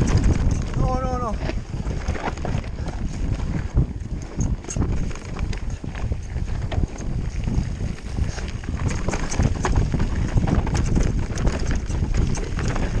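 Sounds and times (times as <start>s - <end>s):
bike chain rattling: 0.0s - 13.0s
tyre noise on dirt: 0.0s - 13.0s
wind rumble on microphone: 0.0s - 13.0s.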